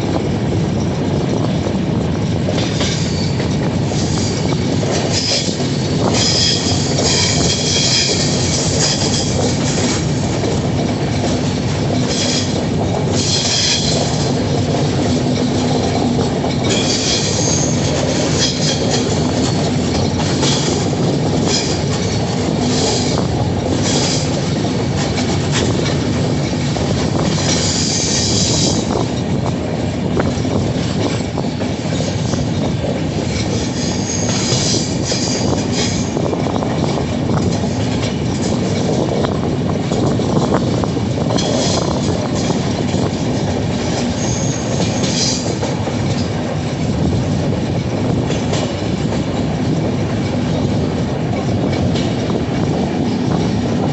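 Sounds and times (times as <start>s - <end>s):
train wheels rumbling on rails: 0.0s - 53.9s
wheels clicking over rail joints: 0.0s - 53.9s.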